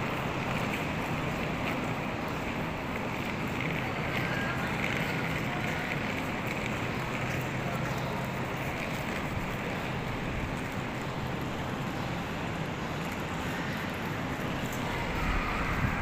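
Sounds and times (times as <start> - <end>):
vehicle travel rumble and hiss: 0.0 - 16.0.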